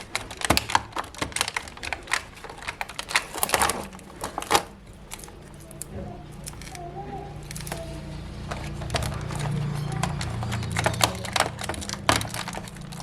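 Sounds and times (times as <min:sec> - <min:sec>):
plastic toy pieces clicking: 0:00.0 - 0:13.0.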